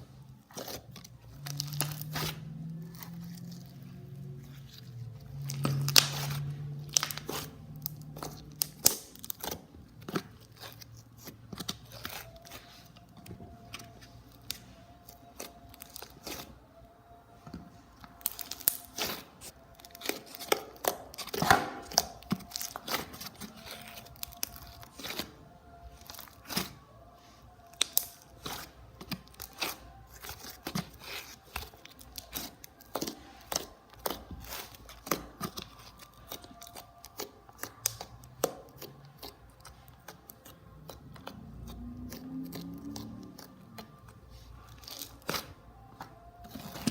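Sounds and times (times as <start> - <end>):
slime squished by hand: 0.4 - 16.6, 17.5 - 46.9.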